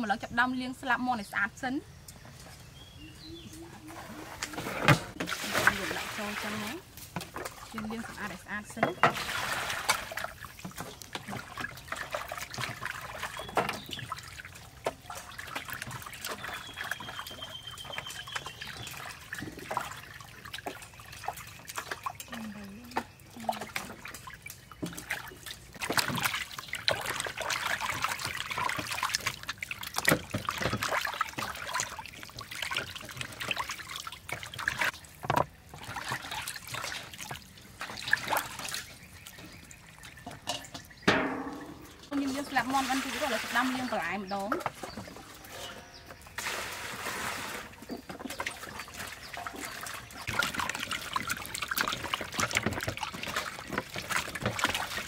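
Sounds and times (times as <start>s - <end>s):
water poured from a dipper: 4.1s - 55.0s
water splashing in a steel bowl: 4.4s - 55.0s.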